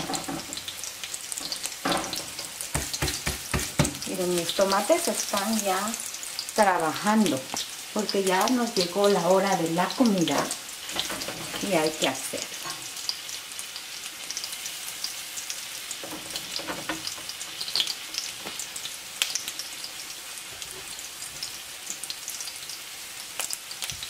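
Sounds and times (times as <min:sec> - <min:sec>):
crackling pops of frying: 0:00.0 - 0:24.0
onion and garlic frying: 0:00.0 - 0:24.0.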